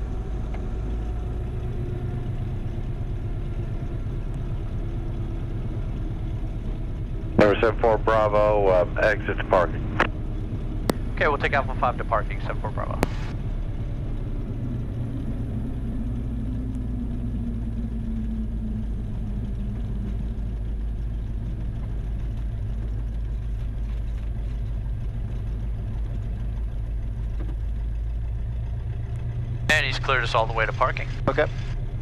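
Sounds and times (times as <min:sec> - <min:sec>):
airplane engine and propeller drone: 0:00.0 - 0:32.0.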